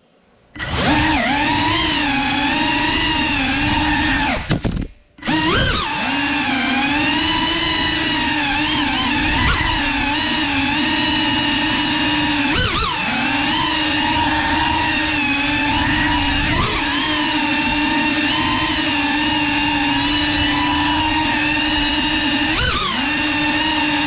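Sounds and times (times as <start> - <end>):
drone motors and propellers whining: 0.4 - 24.0.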